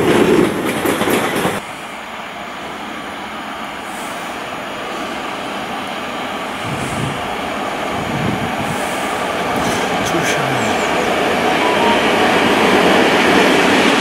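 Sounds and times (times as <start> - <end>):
electric locomotive rumbling: 0.0 - 14.0
train wheels on rail: 0.0 - 14.0.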